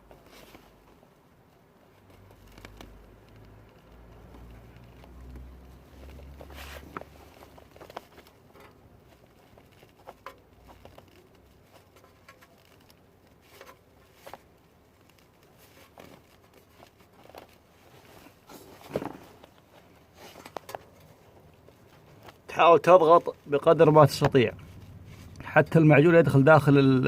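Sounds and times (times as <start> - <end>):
light clicks and rustles: 0.0 - 25.9.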